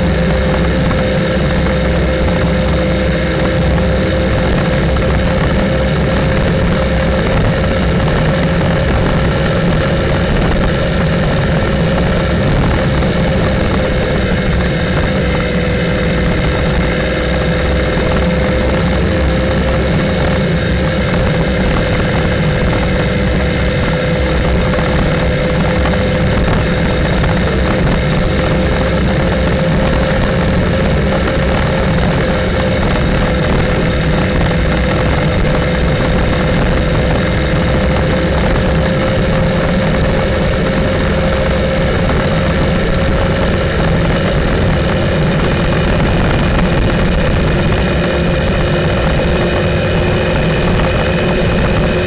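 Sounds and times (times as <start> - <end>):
motorcycle engine cruising: 0.0 - 52.0
wind and road noise: 0.0 - 52.0.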